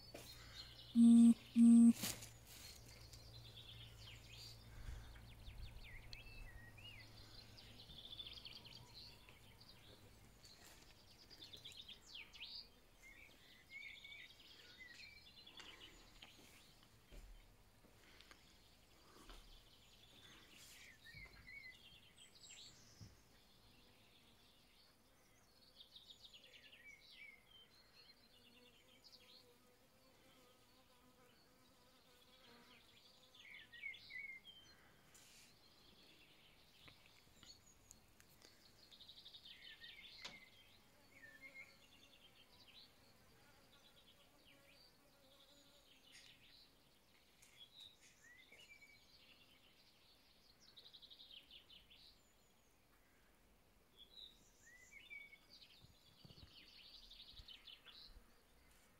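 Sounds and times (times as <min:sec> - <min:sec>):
songbirds chirping and trilling: 0:00.0 - 0:58.9.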